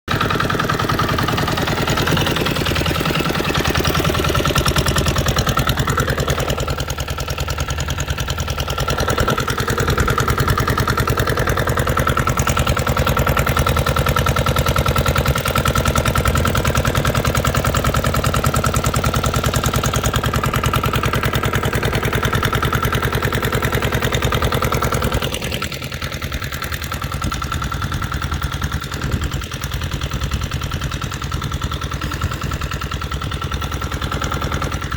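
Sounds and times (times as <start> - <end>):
boat engine running: 0.1 - 34.9.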